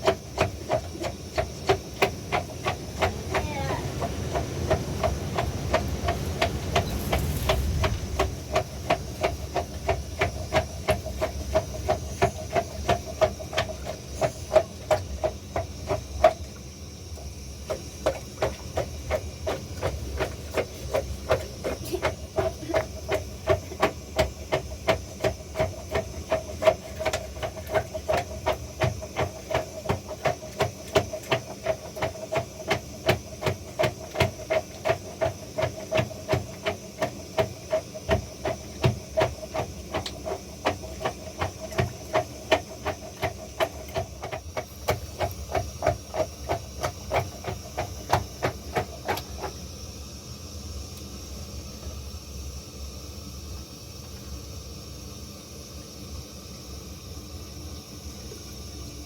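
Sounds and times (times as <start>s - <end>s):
rhythmic knocking with ringing tone: 0.0s - 49.6s.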